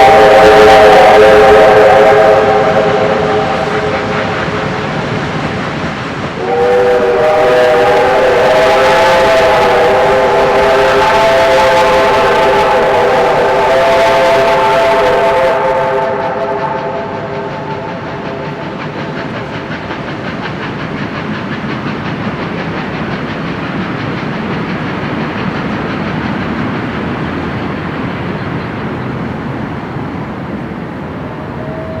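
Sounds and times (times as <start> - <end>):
steam train passing: 0.0 - 32.0
wheels clattering on rails: 2.2 - 32.0.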